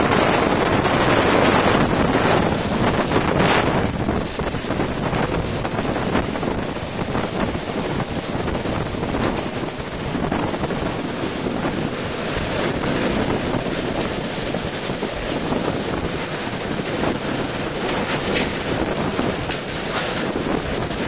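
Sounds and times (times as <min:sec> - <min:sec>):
loud rushing wind: 0:00.0 - 0:21.0
wind buffeting on microphone: 0:00.0 - 0:21.0.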